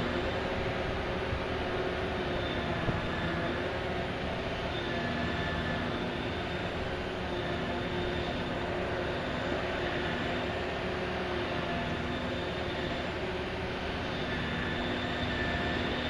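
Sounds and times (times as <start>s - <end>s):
faint steady tones: 0.0s - 16.0s
heavy diesel machinery drone: 0.0s - 16.0s.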